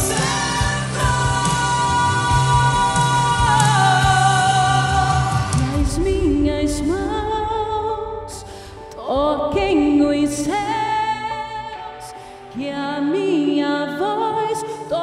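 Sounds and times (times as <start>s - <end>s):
woman singing gospel song: 0.0s - 15.0s.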